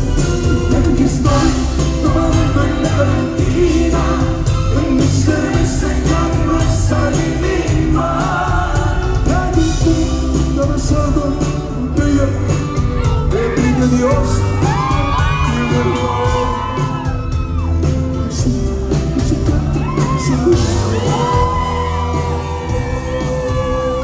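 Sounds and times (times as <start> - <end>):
bass guitar: 0.0 - 24.0
live band playing: 0.0 - 24.0
lead vocal singing: 0.5 - 24.0.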